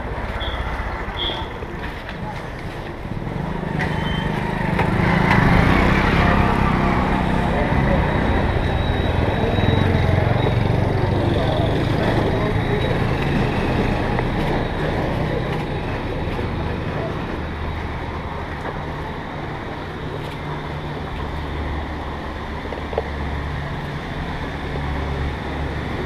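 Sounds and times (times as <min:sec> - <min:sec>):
people's voices: 0:00.0 - 0:21.4
scooter engines and traffic: 0:00.0 - 0:26.0.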